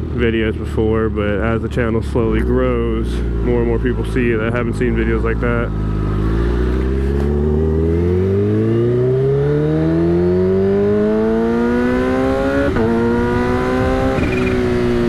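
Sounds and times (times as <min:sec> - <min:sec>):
motorcycle engine accelerating: 0:01.3 - 0:15.0.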